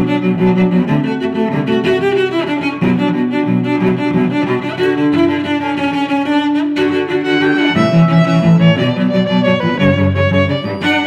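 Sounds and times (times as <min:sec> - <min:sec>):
bowed strings music: 0:00.0 - 0:11.0.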